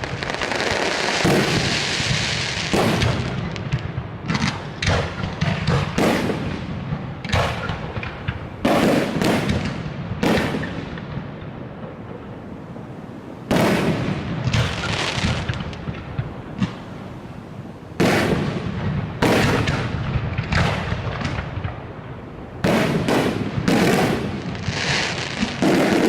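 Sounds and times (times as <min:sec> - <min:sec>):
fireworks bangs and booms: 0:00.0 - 0:26.0.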